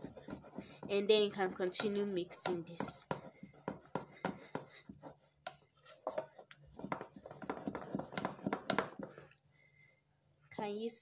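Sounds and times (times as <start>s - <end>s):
wooden spoon beating in plastic bowl: 0.0s - 9.4s.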